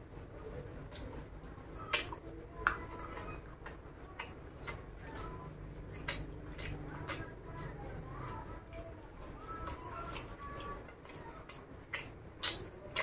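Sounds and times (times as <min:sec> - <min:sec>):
close-miked chewing: 0:00.0 - 0:13.0.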